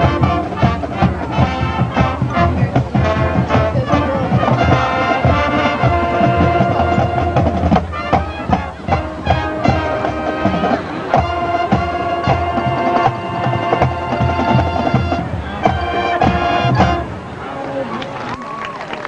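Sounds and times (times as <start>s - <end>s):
snare and bass drums: 0.0s - 17.1s
horns holding chords: 0.0s - 18.0s.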